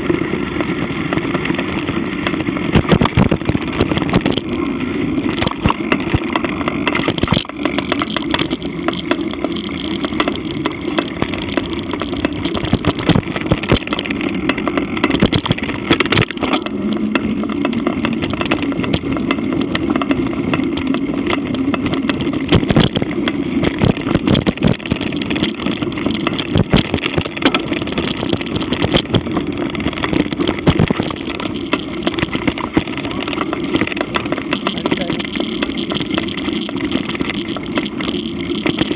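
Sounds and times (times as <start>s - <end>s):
bike rattling clicks and knocks: 0.0s - 38.9s
wind and tyre noise: 0.0s - 38.9s.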